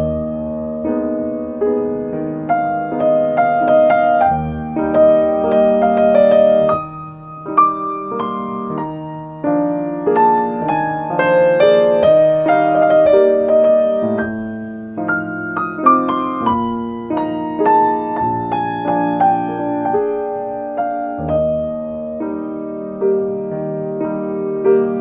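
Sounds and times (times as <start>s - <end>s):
soft solo piano music: 0.0s - 25.0s.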